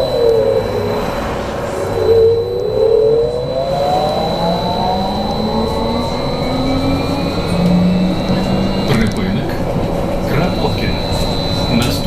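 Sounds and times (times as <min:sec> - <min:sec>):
electric drive whining: 0:00.0 - 0:12.0
high electrical tone: 0:00.0 - 0:12.0.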